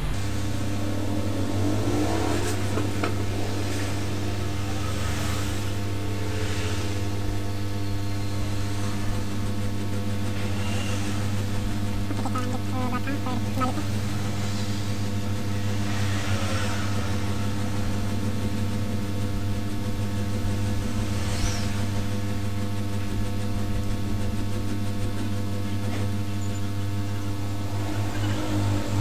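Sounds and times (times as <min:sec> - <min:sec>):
fan whirring: 0:00.0 - 0:29.0
low electrical hum: 0:00.0 - 0:29.0.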